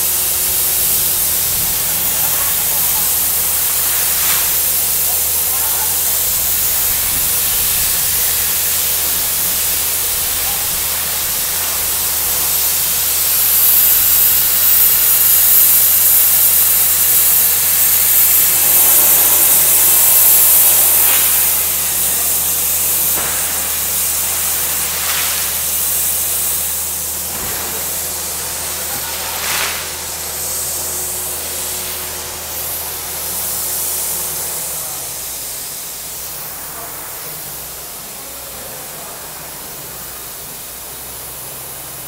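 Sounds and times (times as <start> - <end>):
compressed air hissing rush: 0.0 - 38.0.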